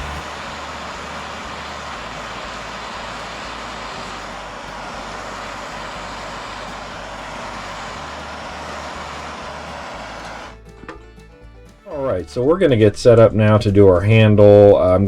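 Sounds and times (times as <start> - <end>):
shop equipment rushing noise: 0.0 - 12.5.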